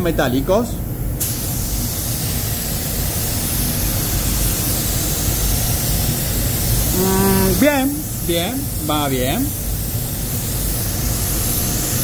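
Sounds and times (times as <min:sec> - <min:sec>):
spray gun hissing: 0:01.2 - 0:12.0.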